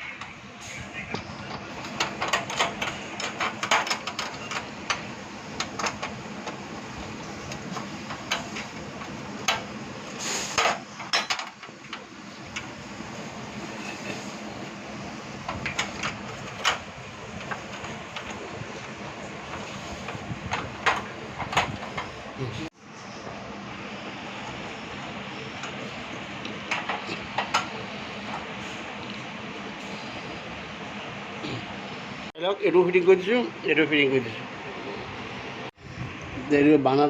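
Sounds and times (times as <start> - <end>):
steady low gas hiss: 0.0 - 37.0.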